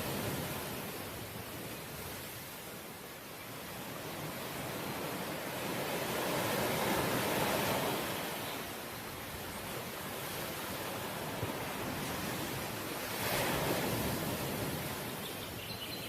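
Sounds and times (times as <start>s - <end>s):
sea waves washing in: 0.0s - 15.6s.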